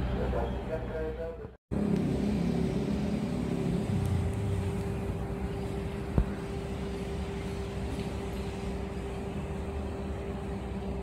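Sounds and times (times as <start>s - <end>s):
diesel locomotive engine droning: 0.0s - 11.0s.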